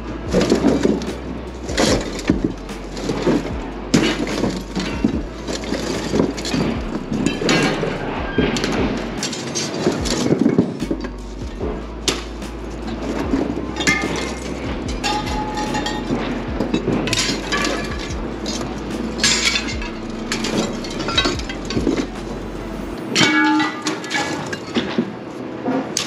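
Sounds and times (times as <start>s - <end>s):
steady low hum: 0.0s - 23.4s
scrap metal clanking: 0.0s - 26.0s.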